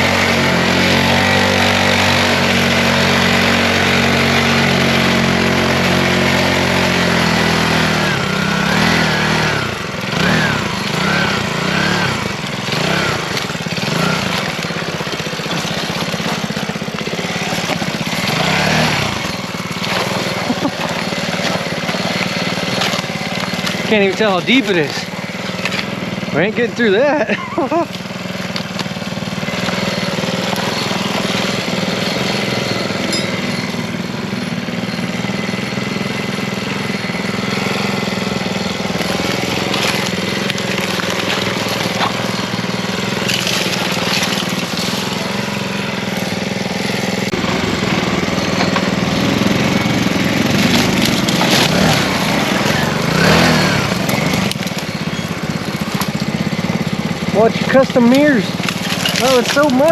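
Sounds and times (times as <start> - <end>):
mini bike engine running: 0.0 - 59.9.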